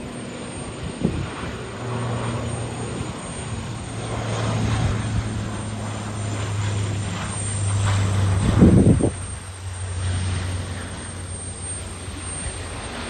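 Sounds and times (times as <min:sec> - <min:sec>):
airplane engines droning: 0:00.0 - 0:13.0
rushing air: 0:00.0 - 0:13.0.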